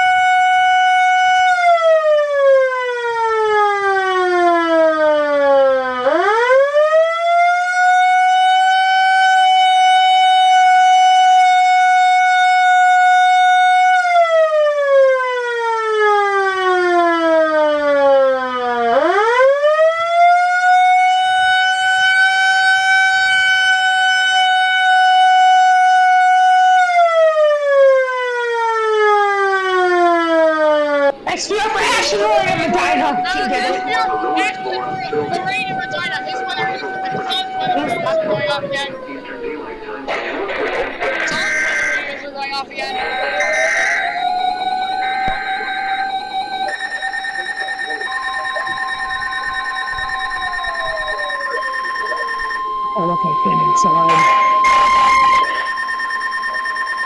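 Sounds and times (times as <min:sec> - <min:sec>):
tornado siren wailing: 0:00.0 - 0:57.0.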